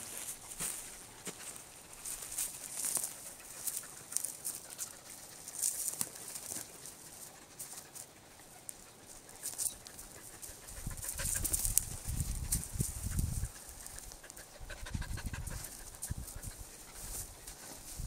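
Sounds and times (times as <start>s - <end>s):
paws and boots crunching on ground: 0.0s - 18.0s.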